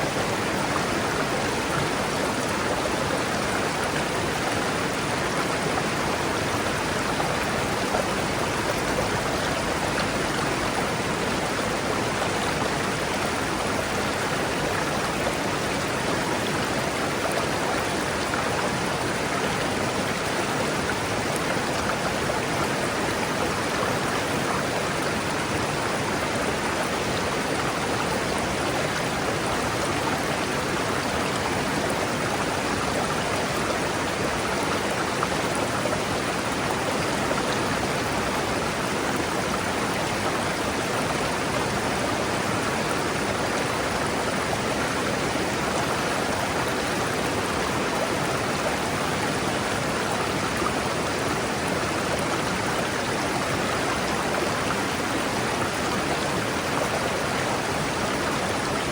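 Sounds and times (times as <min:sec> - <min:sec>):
river water rushing over rocks: 0:00.0 - 0:58.9.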